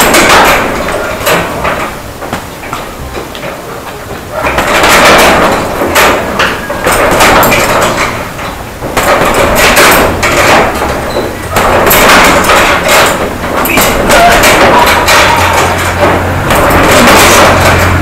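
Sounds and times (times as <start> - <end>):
punches thudding on heavy bag: 0.0 - 2.5, 4.4 - 18.0.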